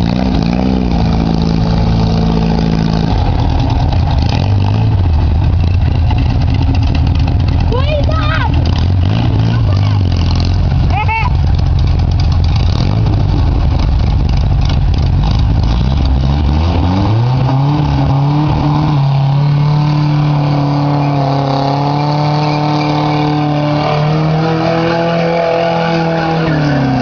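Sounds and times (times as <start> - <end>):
racing engine revving: 0.0 - 27.0.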